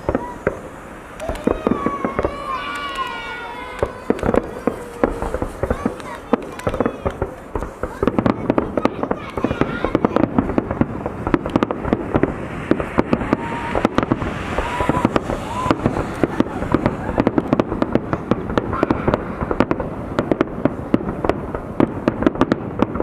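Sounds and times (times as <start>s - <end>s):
firework shell bursts: 0.0s - 23.0s
fireworks crackling: 0.0s - 23.0s.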